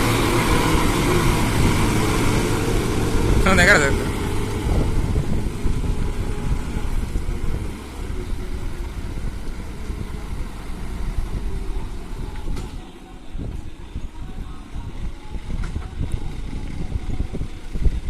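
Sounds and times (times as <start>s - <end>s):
lorry engine rumbling: 0.0s - 18.0s.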